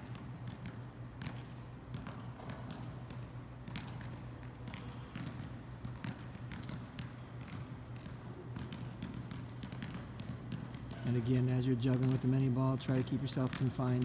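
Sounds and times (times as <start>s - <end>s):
ball bouncing: 0.0s - 14.0s
feet tapping balls: 0.0s - 14.0s
steady low hum: 0.0s - 14.0s.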